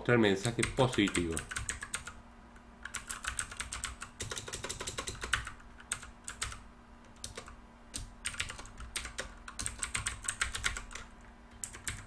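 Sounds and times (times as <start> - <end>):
typing on computer keyboard: 0.4 - 2.2, 2.8 - 12.0.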